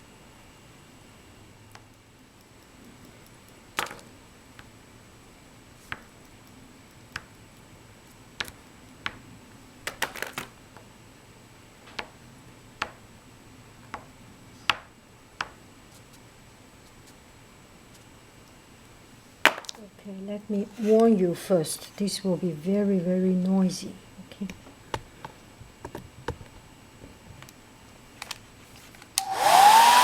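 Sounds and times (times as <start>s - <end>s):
faint background hum: 0.0s - 29.3s.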